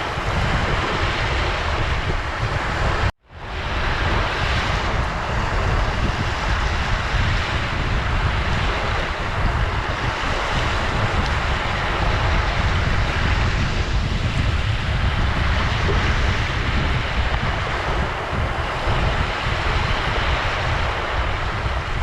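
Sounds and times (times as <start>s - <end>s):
low fluttering rumble: 0.0s - 22.0s
ocean surf breaking: 0.0s - 22.0s.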